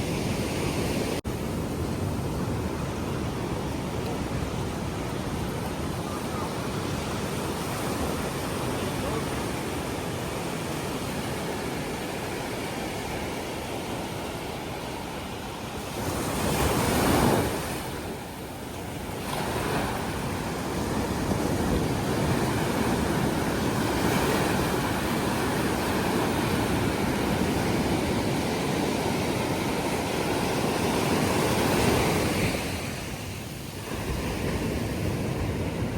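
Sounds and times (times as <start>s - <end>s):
sea waves breaking on beach: 0.0s - 35.9s.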